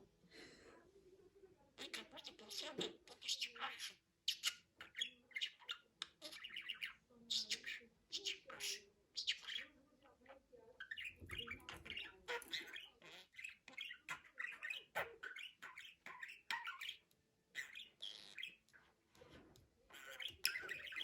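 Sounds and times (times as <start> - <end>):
budgerigar chattering and chirping: 1.8 - 9.8, 10.8 - 18.7, 19.9 - 21.0.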